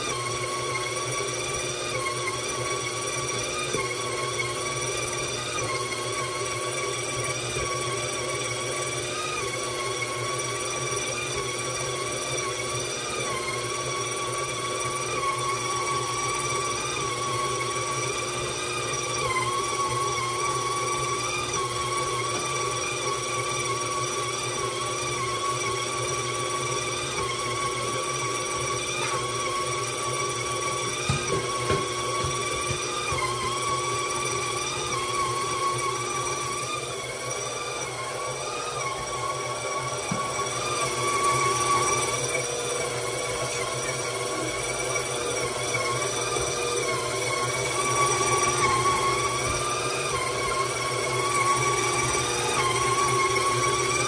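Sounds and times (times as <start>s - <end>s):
stand mixer motor whining: 0.0s - 54.0s.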